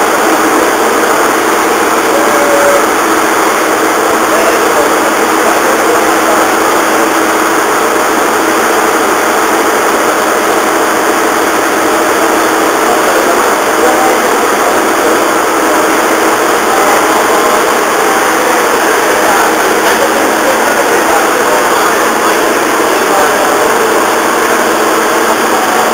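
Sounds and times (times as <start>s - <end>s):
train diesel generator idling: 0.0s - 25.9s.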